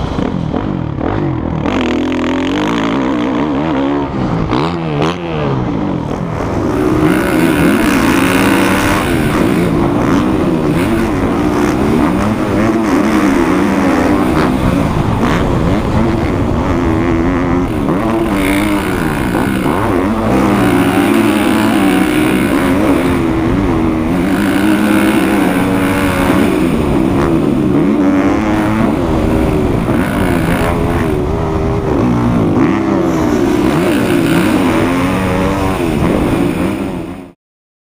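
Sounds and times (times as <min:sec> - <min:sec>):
dirt bike engine revving: 0:00.0 - 0:37.4.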